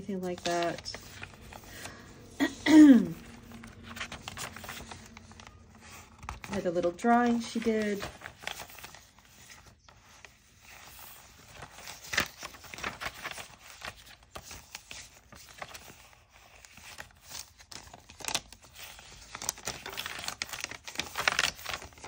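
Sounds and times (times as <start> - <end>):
paper pages rustling: 0.0 - 22.0.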